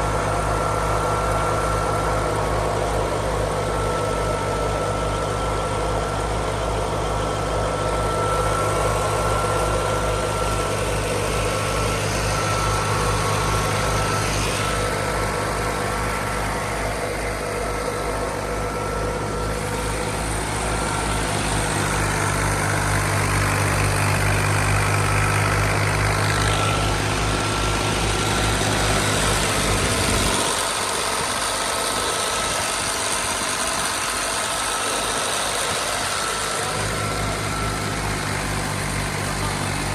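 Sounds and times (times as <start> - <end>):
threshing machinery whirr: 0.0 - 39.9
tractor diesel engine running: 0.0 - 39.9.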